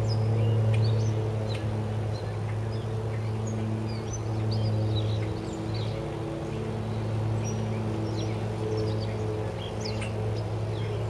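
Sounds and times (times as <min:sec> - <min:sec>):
low machine hum: 0:00.0 - 0:11.0
small birds chirping: 0:00.0 - 0:11.0.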